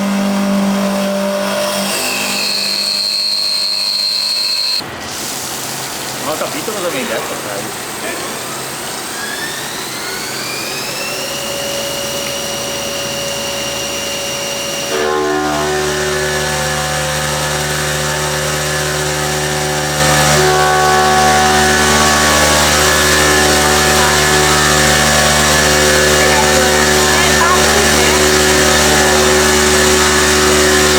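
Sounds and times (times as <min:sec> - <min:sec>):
machine many-toned hum: 0:00.0 - 0:04.8, 0:09.4 - 0:30.9
spindle motor whining: 0:00.0 - 0:04.9, 0:06.4 - 0:30.9.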